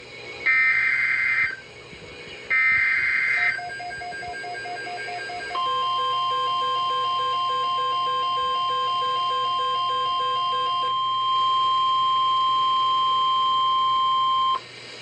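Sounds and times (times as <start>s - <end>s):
screechy digital data bursts: 0.4s - 1.8s, 2.4s - 14.2s
steady weather radio alert tone: 0.5s - 1.8s, 2.5s - 14.6s.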